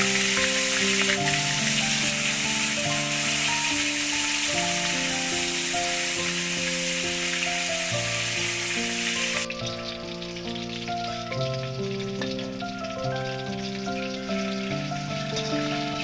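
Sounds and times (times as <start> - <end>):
background music: 0.0 - 16.0
fish sizzling in hot oil: 0.0 - 16.0.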